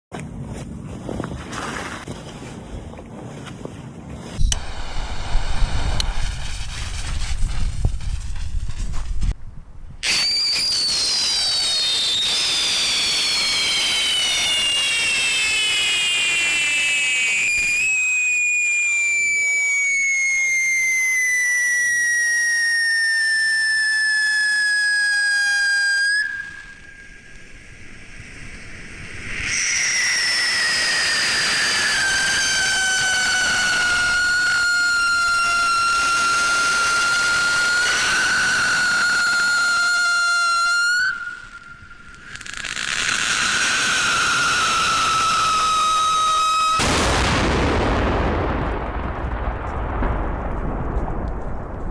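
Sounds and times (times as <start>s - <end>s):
whistling firework: 4.3s - 51.9s.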